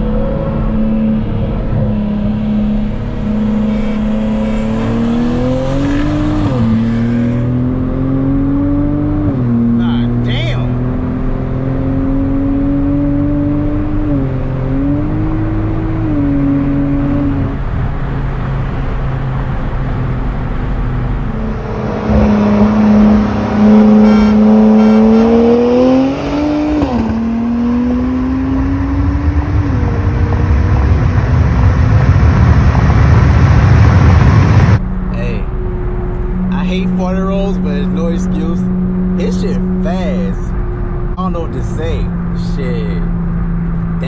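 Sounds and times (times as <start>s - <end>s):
car engine accelerating: 0.0s - 44.0s
road and wind noise: 0.0s - 44.0s.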